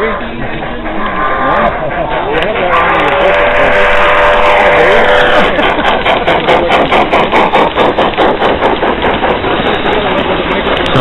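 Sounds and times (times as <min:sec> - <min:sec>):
model train wheels clicking: 0:00.0 - 0:11.0.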